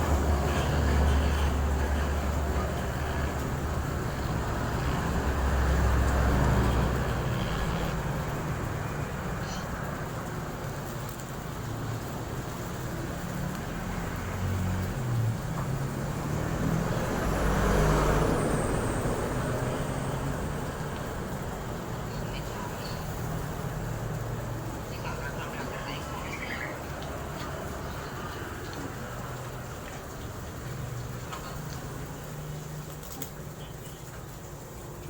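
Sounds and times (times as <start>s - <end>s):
vehicle engines rumbling: 0.0s - 35.0s.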